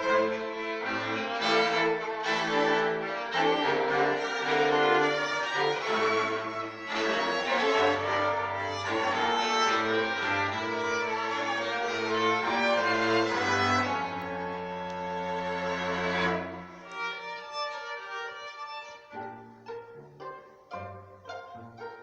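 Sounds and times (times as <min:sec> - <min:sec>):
cello line: 0:00.0 - 0:22.0
violin sustained notes: 0:00.0 - 0:22.0.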